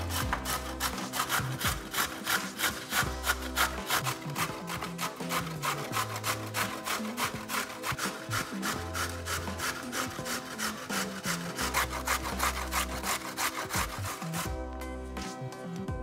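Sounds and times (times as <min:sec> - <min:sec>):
background music with bass notes: 0:00.0 - 0:09.9, 0:10.7 - 0:16.0
vegetable grated on a grater: 0:00.0 - 0:14.6.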